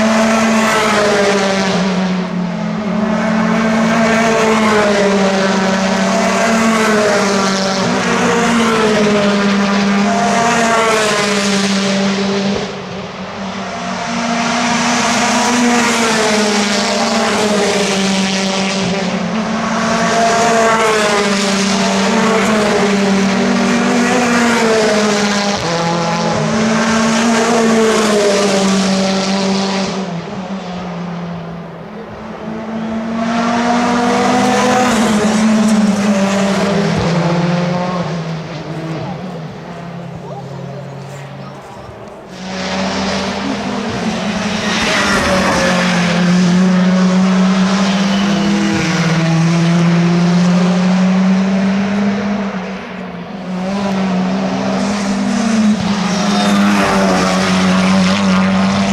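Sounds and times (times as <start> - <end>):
racing car engines: 0.0 - 58.9.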